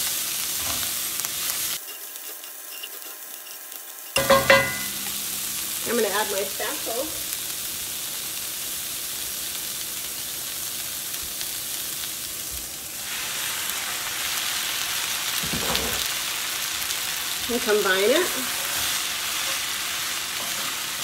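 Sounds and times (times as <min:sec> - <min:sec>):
onions frying in a skillet: 0:00.0 - 0:21.0.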